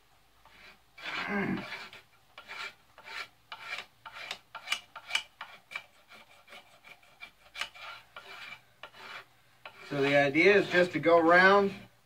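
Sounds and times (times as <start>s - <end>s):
knife scraping wooden handle: 0.4s - 12.0s.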